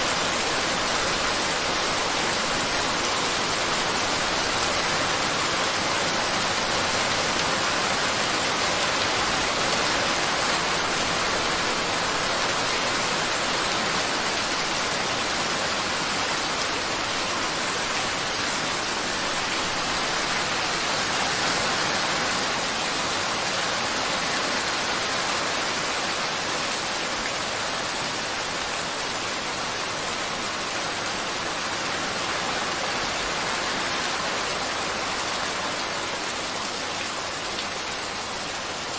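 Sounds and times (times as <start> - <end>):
rain-like hiss: 0.0 - 38.9.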